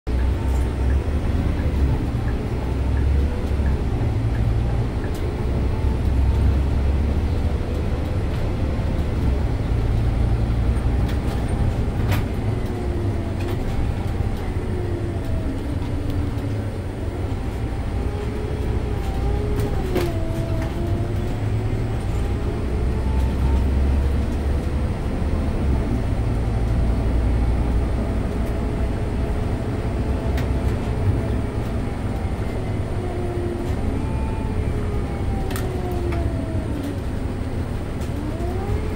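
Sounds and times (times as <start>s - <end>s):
bus engine rumble: 0.1s - 38.9s
drivetrain whine: 0.1s - 38.9s.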